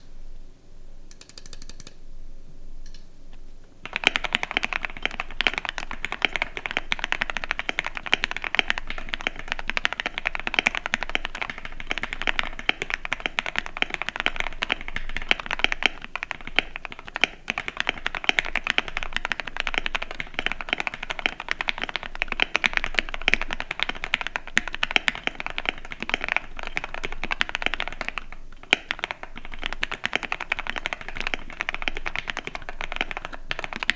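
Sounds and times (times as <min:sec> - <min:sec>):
fast mechanical keyboard typing: 0:01.1 - 0:01.9, 0:03.8 - 0:33.9.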